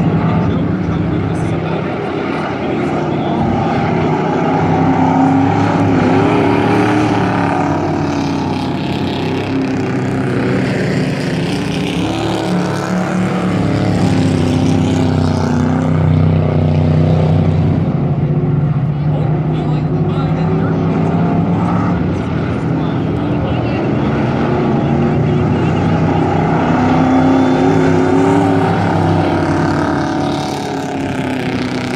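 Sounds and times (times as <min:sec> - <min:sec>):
truck engines racing: 0:00.0 - 0:31.9.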